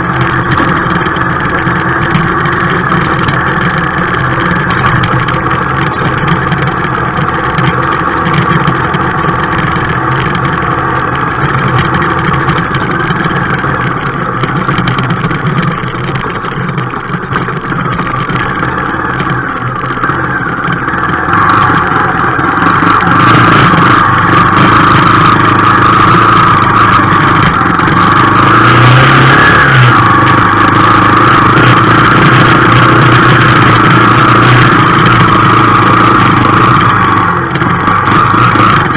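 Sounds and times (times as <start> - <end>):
vehicle engine driving on dirt: 0.0 - 38.9.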